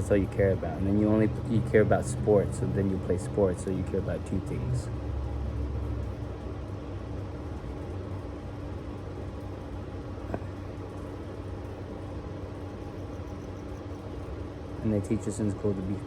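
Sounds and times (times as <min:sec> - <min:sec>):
distant engine humming: 0:00.0 - 0:16.0.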